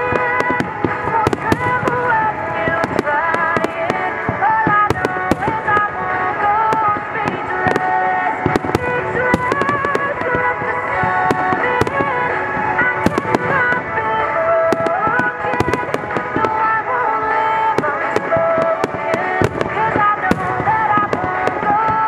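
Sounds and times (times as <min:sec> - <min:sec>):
fireworks bursting: 0:00.0 - 0:22.0
music with gliding melody: 0:00.0 - 0:22.0.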